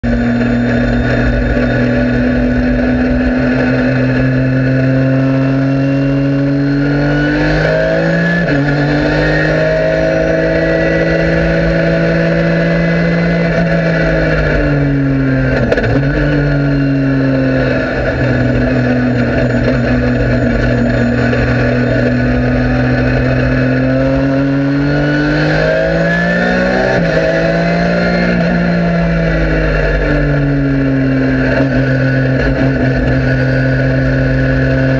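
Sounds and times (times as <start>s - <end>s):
race car engine accelerating: 0.0s - 34.9s.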